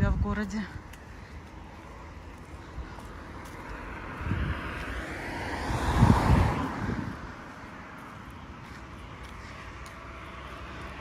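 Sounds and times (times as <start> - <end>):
road vehicle passing by: 0.4 - 11.0.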